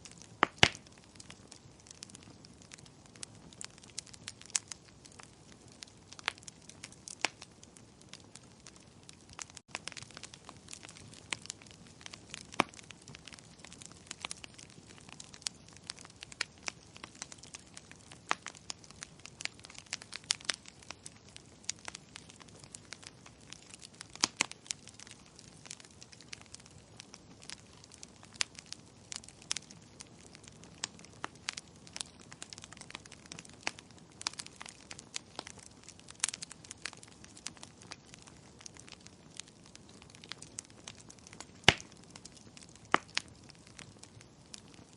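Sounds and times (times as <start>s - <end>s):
fire crackling: 0.0s - 44.9s.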